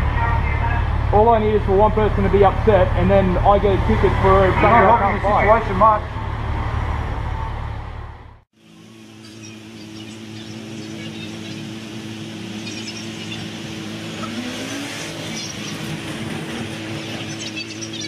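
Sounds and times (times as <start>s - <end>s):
street traffic engines running: 0.0s - 18.0s.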